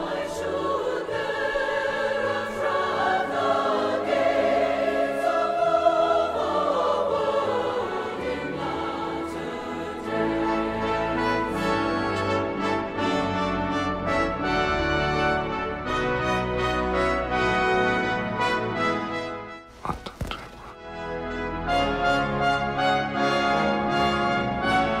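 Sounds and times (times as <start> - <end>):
choir singing with orchestra: 0.0 - 20.0, 21.0 - 25.0.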